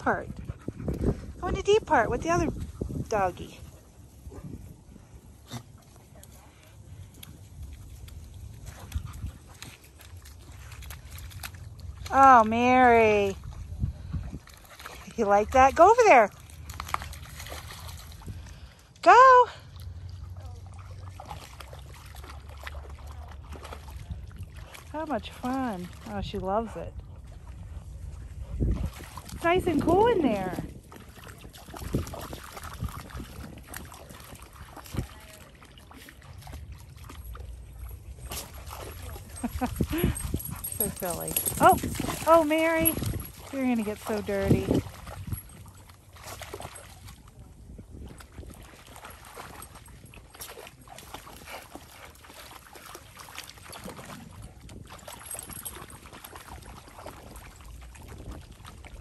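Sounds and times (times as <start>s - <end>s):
dog splashing through water: 0.0s - 59.0s.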